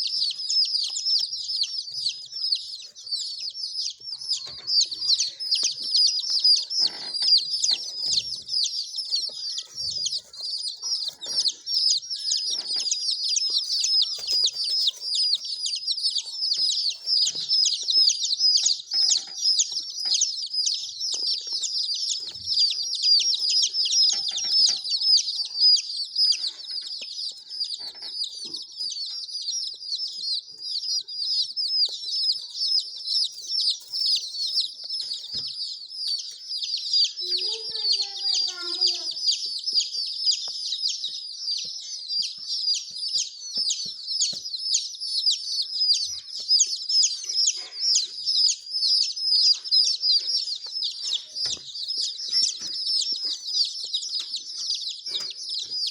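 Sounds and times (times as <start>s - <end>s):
baby chicks peeping: 0.0s - 55.9s.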